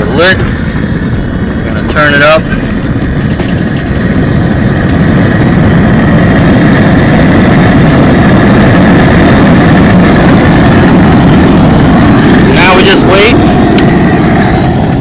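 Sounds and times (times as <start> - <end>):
propane burner roaring: 0.0 - 15.0.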